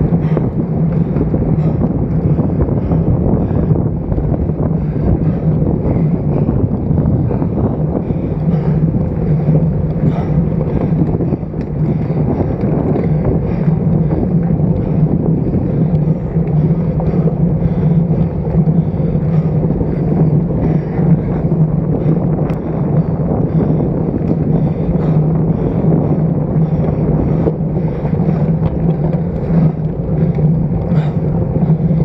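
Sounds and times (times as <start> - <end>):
low rumble: 0.0 - 32.0
wind rushing over microphone: 0.0 - 32.0.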